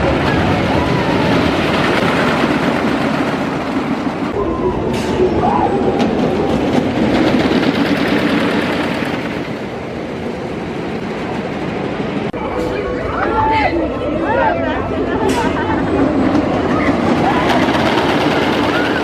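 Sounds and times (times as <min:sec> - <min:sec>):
roller coaster rumbling on wooden track: 0:00.0 - 0:19.0.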